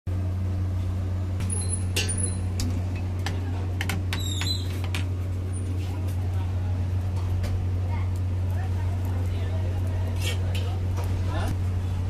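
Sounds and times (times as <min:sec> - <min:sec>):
gas burner roaring: 0:00.1 - 0:12.0.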